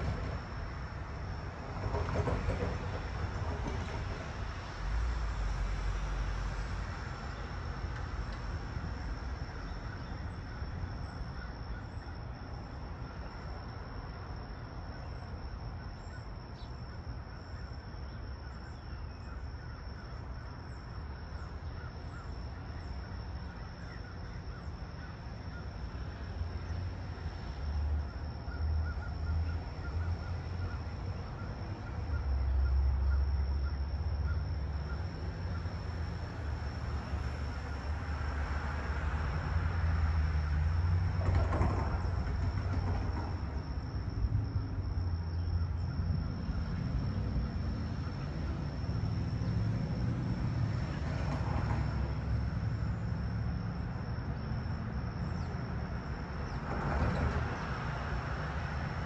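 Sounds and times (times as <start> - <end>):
train rumble: 0.0 - 16.2, 20.0 - 59.0.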